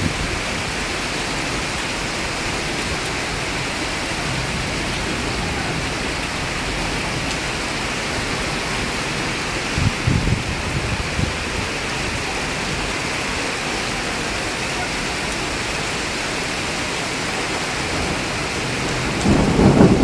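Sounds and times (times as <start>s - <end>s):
rushing floodwater: 0.0s - 20.0s.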